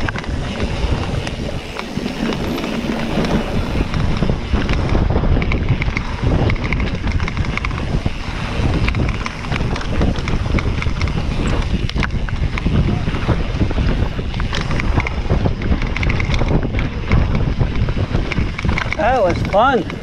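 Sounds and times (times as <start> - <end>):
bike rattling clicks and knocks: 0.0 - 20.0
wind buffeting microphone: 0.0 - 20.0.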